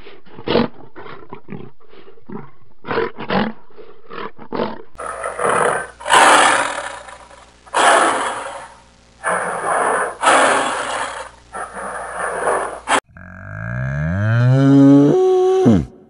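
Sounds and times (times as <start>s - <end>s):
lion grunting: 0.0s - 16.0s
lion roaring: 0.3s - 16.0s.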